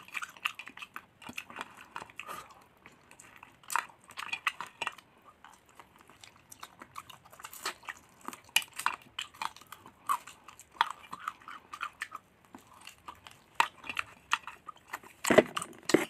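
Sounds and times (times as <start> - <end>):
chewing and crunching fried food: 0.0 - 16.0.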